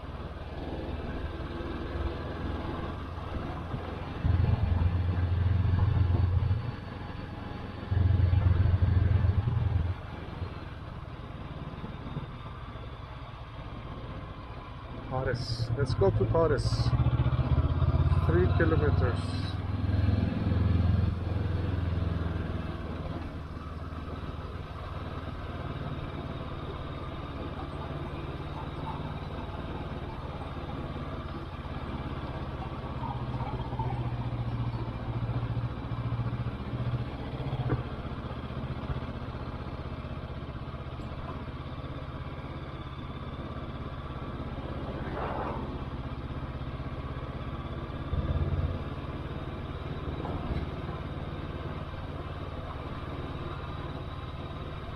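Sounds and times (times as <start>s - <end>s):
motorcycle engine running: 0.0s - 54.9s
road noise: 0.0s - 54.9s
wind: 0.0s - 54.9s.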